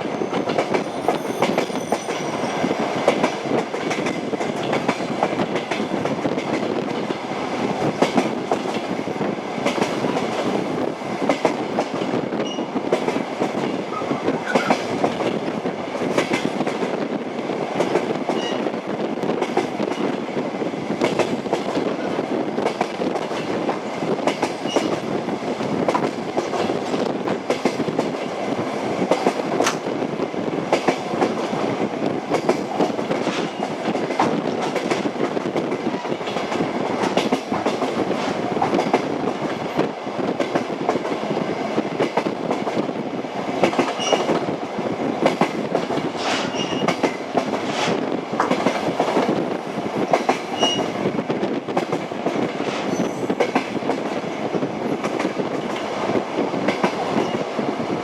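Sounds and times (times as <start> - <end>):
train wheels clattering: 0.0 - 9.0, 9.6 - 17.0, 21.0 - 29.9, 30.6 - 42.9, 43.6 - 44.5, 45.2 - 57.5.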